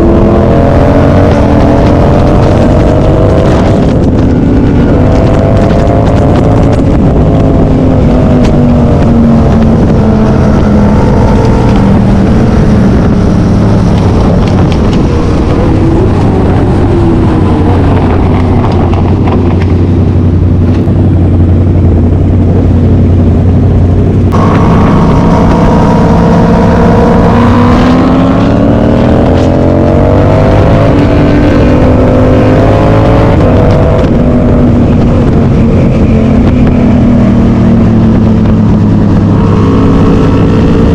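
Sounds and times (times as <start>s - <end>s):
vehicle engines revving: 0.0s - 40.9s.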